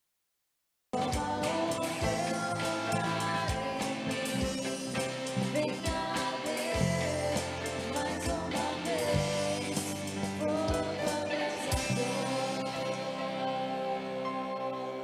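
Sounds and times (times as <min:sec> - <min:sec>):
bass: 0:01.0 - 0:15.0
guitar: 0:01.0 - 0:15.0
person singing: 0:01.0 - 0:15.0.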